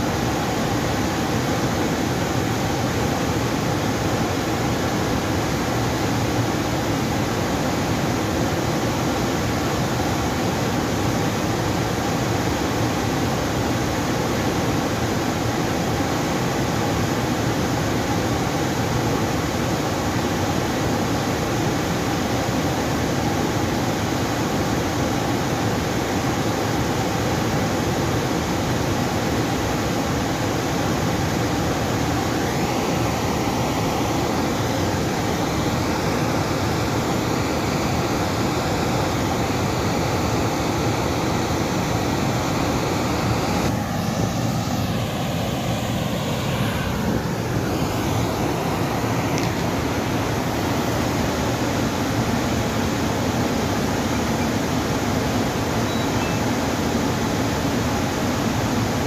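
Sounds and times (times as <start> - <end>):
dam water rushing: 0.0 - 59.0.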